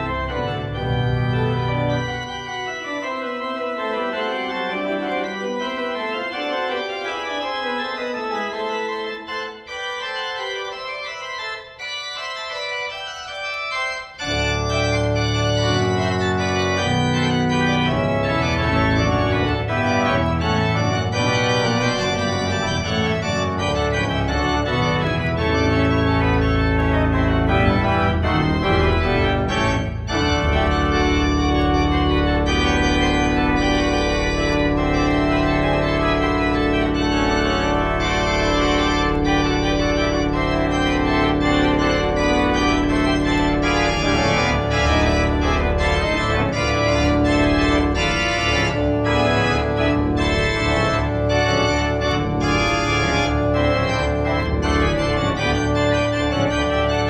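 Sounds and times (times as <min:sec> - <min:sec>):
pipe organ playing a fugue: 0:00.0 - 0:57.0.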